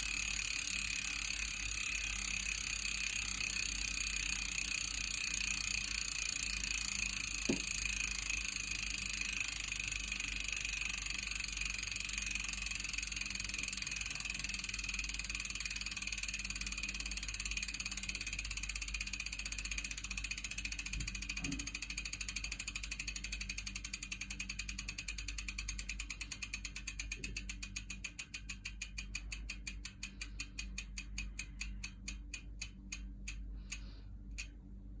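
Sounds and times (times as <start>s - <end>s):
bicycle freehub ticking: 0.0s - 34.6s.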